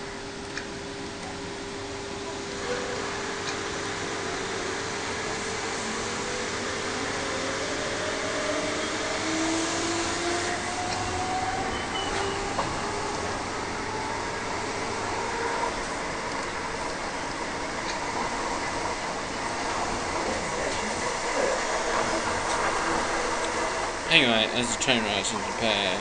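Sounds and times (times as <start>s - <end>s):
train interior rush: 0.0s - 26.0s.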